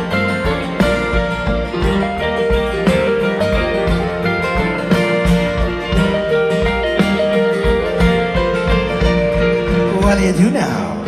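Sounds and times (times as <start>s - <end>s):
electric guitar: 0.0s - 11.0s
live folk-rock band playing: 0.0s - 11.0s.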